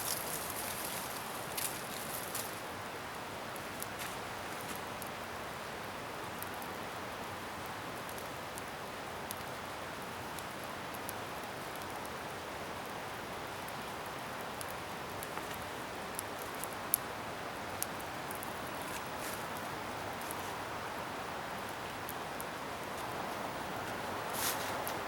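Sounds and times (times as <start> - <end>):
bonfire hissing and crackling: 0.0 - 25.0.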